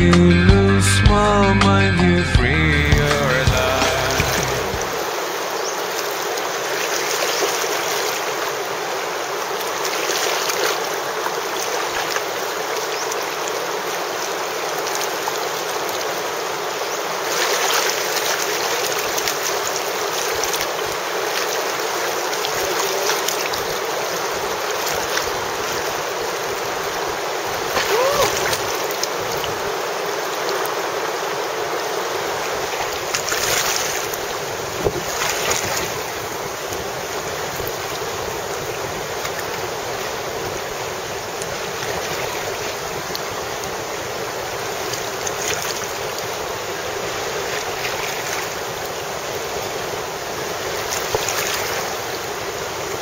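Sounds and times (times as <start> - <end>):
river rapids rushing: 0.0 - 53.0.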